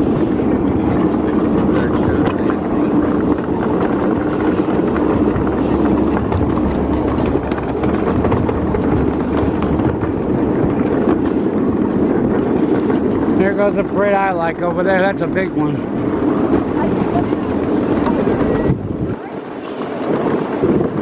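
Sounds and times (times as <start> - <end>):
miniature train rolling: 0.0 - 21.0
wheels clicking over rail joints: 0.0 - 21.0.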